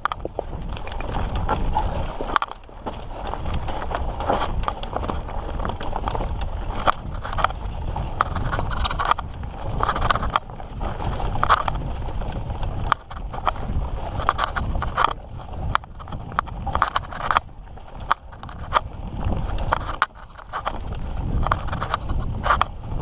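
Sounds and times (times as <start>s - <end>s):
bike clattering over rocks: 0.0s - 22.8s
steady low rumble: 0.0s - 23.0s.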